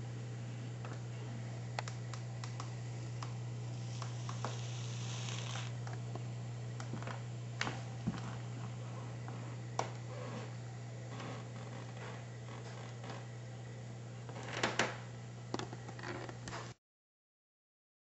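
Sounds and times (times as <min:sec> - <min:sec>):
low electrical hum: 0:00.0 - 0:16.8.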